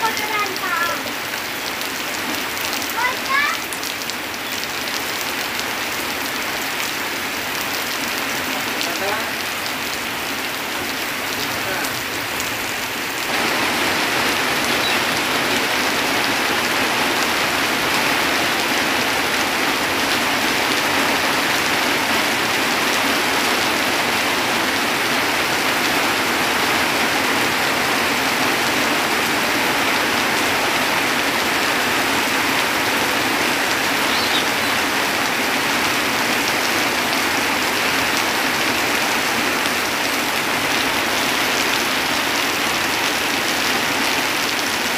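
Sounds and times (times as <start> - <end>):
heavy rain on a tin roof: 0.0 - 44.9.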